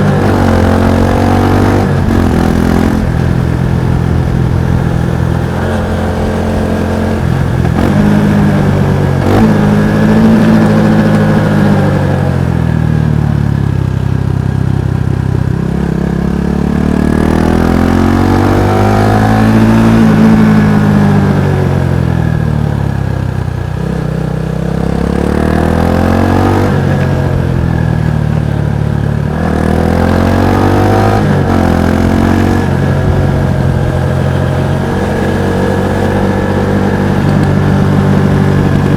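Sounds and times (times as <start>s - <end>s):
motorcycle exhaust revving: 0.0s - 38.9s.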